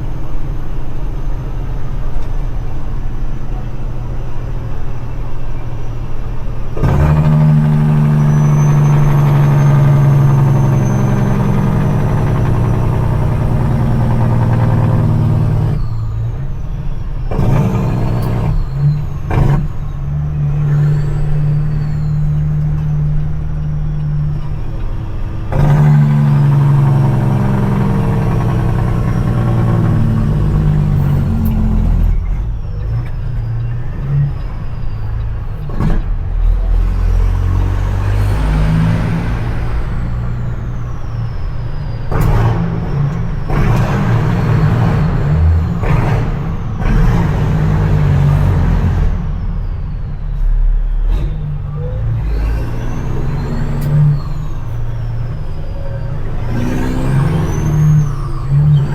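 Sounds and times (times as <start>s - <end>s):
diesel truck engine shifting gears: 0.0s - 58.9s.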